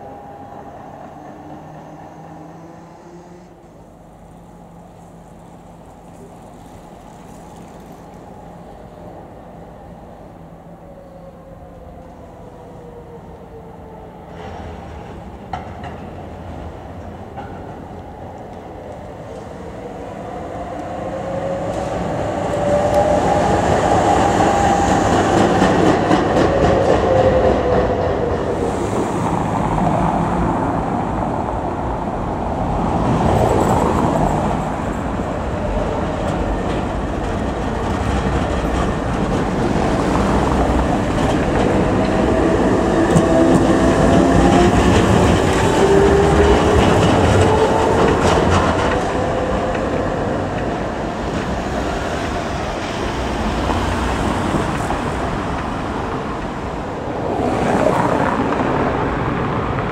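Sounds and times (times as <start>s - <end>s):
tram approaching: 0.0s - 59.9s
tram wheels on rails: 0.0s - 59.9s.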